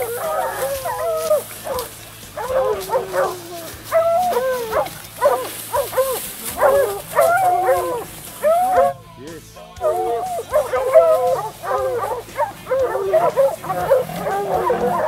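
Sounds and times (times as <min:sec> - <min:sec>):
hounds baying and barking: 0:00.0 - 0:15.0.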